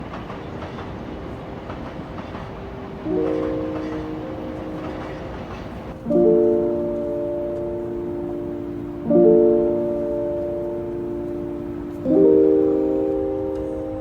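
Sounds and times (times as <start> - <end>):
train rumbling: 0.0 - 14.0
background music chord: 2.7 - 14.0.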